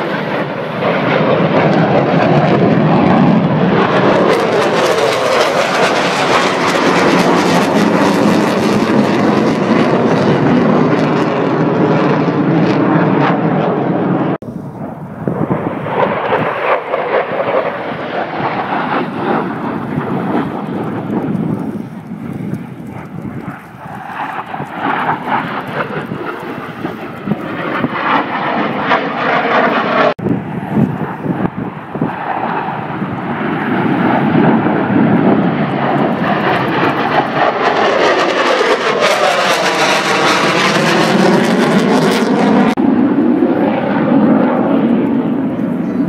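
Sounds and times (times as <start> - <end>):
jets flying past overhead: 0.0 - 46.0.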